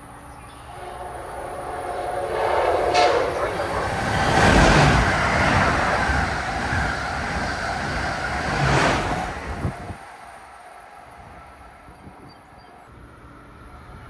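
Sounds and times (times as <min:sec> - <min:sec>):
train passing at high speed: 0:00.0 - 0:14.0.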